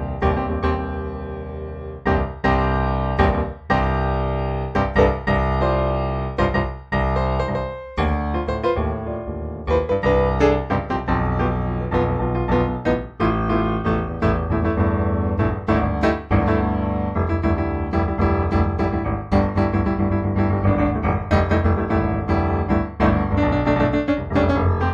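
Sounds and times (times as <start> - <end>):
solo piano music: 0.0 - 24.9.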